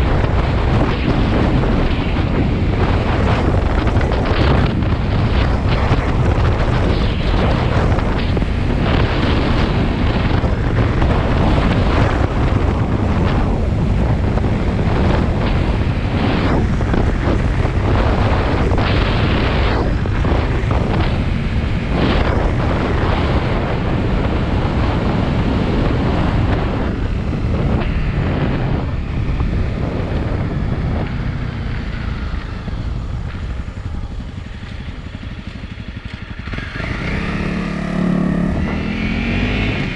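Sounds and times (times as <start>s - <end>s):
motorcycle running noise: 0.0s - 39.9s
wind buffeting microphone: 0.0s - 39.9s.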